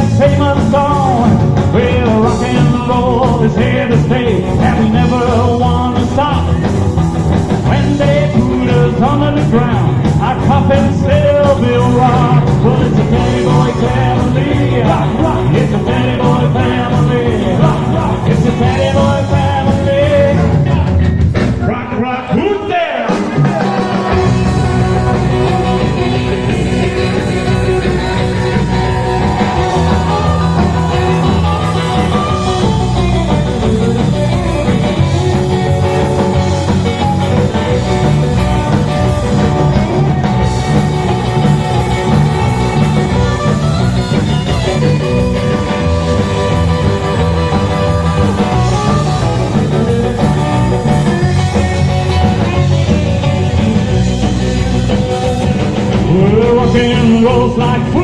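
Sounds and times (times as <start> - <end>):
electric guitar: 0.0 - 58.0
rock and roll band playing: 0.0 - 58.0.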